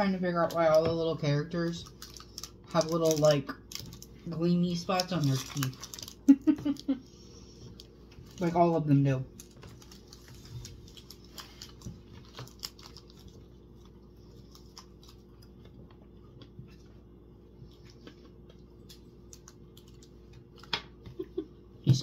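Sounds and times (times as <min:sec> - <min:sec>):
steady low hum: 0:00.0 - 0:22.0
hard candy being chewed: 0:01.6 - 0:08.5, 0:09.3 - 0:20.7.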